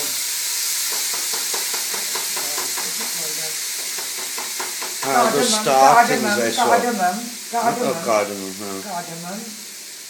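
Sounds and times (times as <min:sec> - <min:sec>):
rice sizzling in oil: 0:00.0 - 0:10.0.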